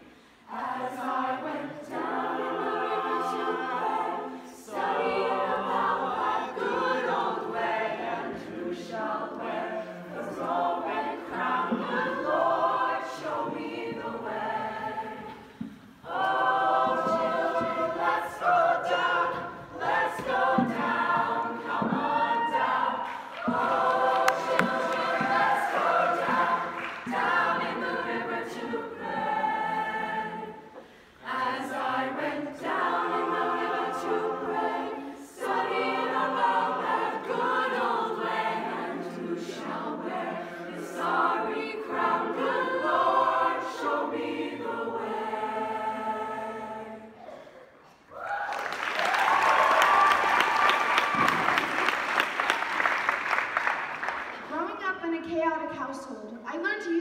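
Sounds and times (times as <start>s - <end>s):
choir singing in harmony: 0.0s - 54.4s.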